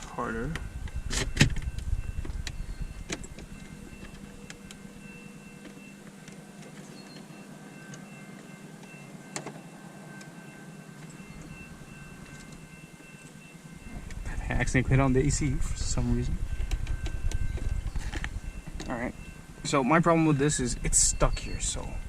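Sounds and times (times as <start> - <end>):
blower fan whirring: 0.0 - 22.0.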